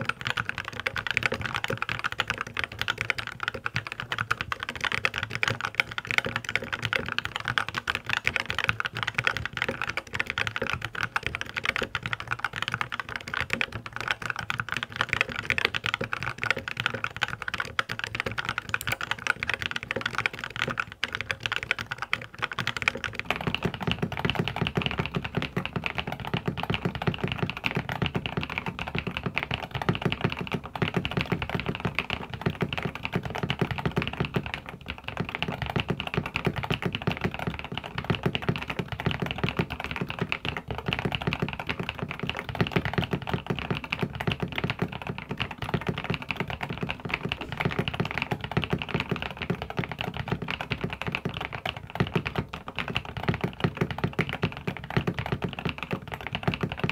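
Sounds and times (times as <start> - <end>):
typing on mechanical keyboard: 0.0 - 56.9.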